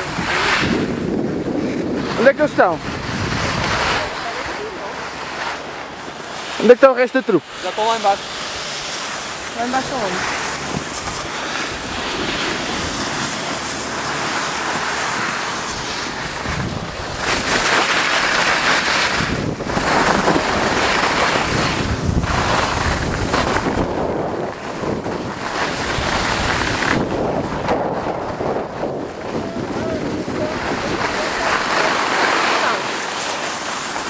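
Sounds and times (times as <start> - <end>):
wind buffeting microphone: 0.0 - 6.6, 7.4 - 32.2
skis scraping over snow: 0.0 - 34.0.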